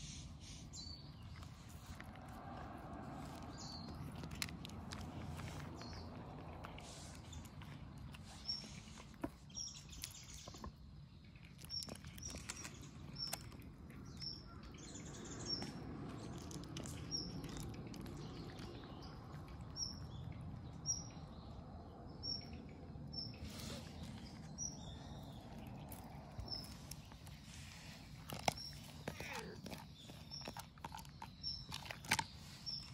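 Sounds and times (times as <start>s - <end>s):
cats chewing from bowl: 0.0s - 21.8s, 22.9s - 32.9s.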